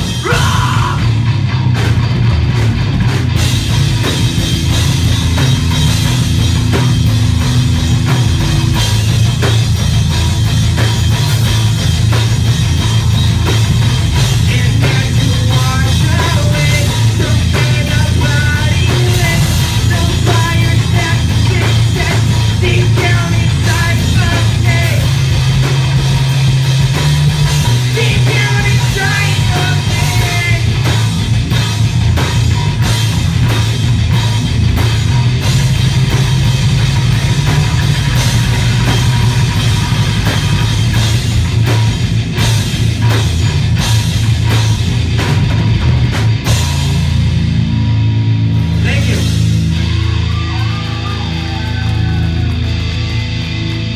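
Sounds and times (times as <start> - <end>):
bass guitar: 0.0 - 53.9
distorted electric guitars: 0.0 - 53.9
fast dense drumming: 0.0 - 53.9.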